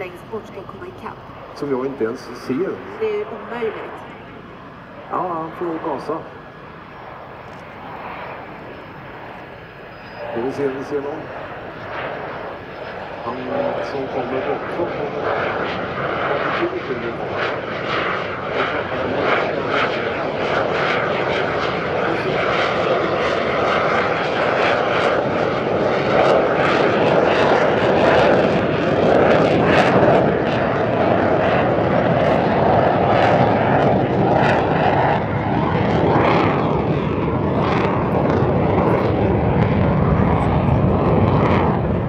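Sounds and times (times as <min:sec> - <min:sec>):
jet engine roaring: 0:00.0 - 0:42.0.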